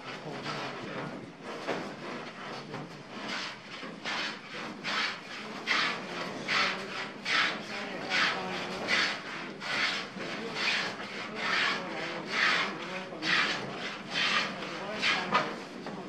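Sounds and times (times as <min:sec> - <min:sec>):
hand plane shaving wood: 0:00.0 - 0:15.9.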